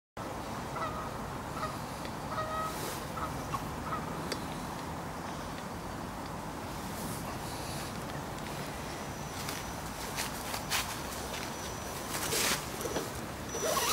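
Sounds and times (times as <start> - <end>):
background rushing noise: 0.2 - 13.9.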